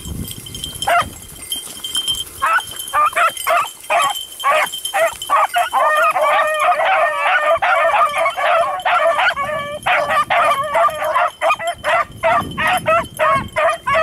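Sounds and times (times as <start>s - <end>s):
dogs baying: 0.8s - 1.2s, 2.4s - 14.0s.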